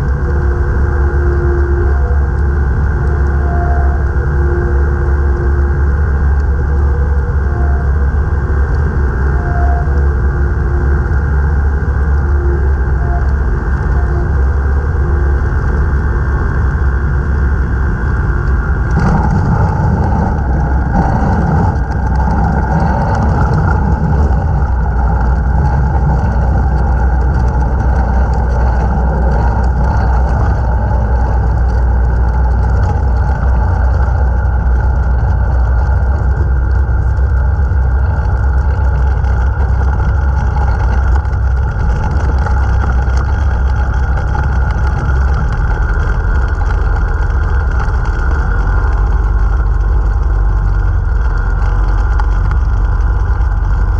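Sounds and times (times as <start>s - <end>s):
aircraft engine droning: 0.0s - 53.9s.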